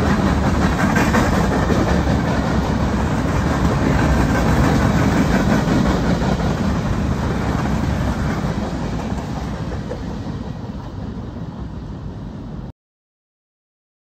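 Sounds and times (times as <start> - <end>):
freight train rolling on rails: 0.0 - 12.7.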